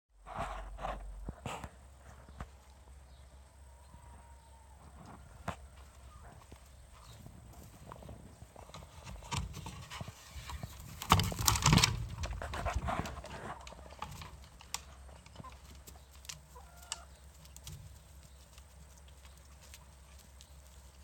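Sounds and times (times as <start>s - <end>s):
hens pecking: 0.2s - 21.0s
hens scuffling: 0.2s - 21.0s.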